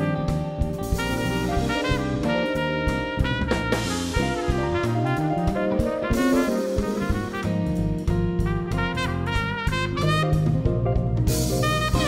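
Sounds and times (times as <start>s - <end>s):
bass: 0.0s - 12.0s
drum kit: 0.0s - 12.0s
trumpet melody: 0.0s - 12.0s.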